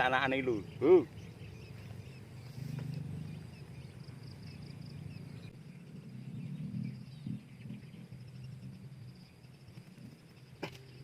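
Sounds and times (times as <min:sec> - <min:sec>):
high chirping of small animals: 0:00.0 - 0:11.0
low steady rumble: 0:00.0 - 0:11.0.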